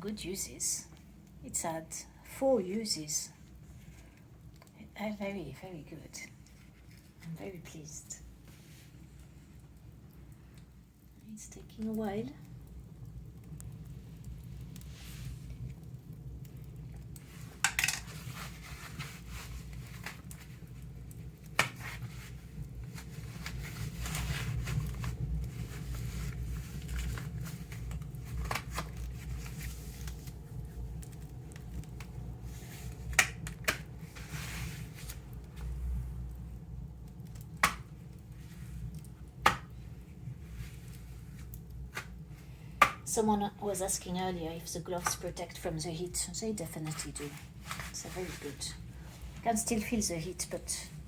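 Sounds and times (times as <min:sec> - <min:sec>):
fire crackling and popping: 0:00.0 - 0:51.0
fire rumbling: 0:00.0 - 0:51.0.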